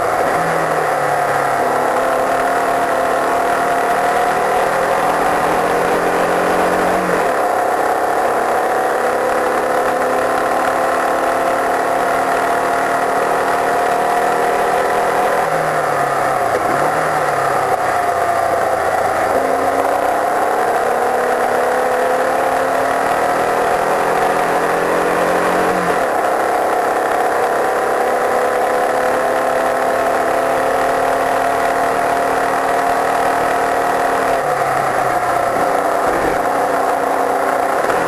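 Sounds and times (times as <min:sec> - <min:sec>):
race car engine running hard: 0:00.0 - 0:38.0.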